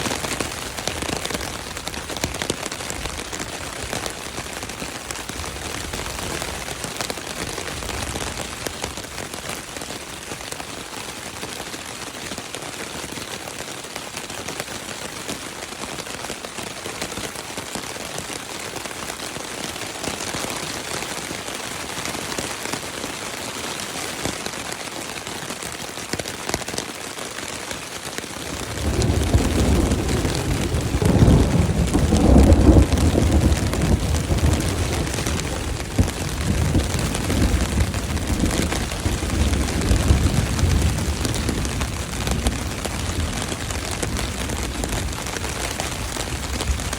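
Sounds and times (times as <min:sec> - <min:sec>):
rain on tent fabric: 0:00.0 - 0:46.9.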